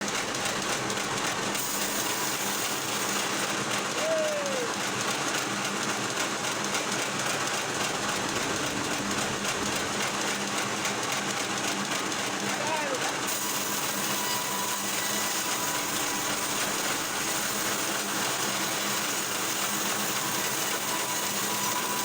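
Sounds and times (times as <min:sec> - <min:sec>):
log-cutting machinery running: 0:00.0 - 0:22.0.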